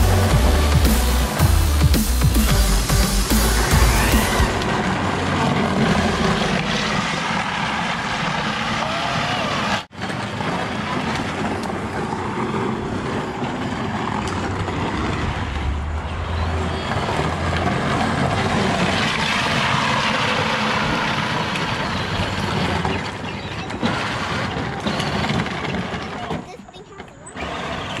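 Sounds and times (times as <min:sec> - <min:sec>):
plastic wheels rumbling on asphalt: 0:00.0 - 0:28.0.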